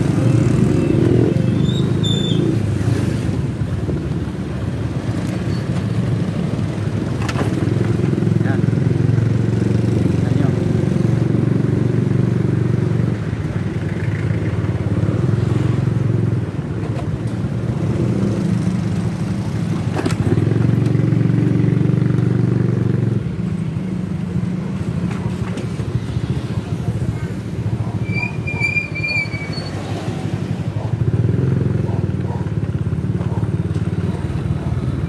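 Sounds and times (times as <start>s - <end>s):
motorcycle engine rumbling: 0.0s - 35.0s.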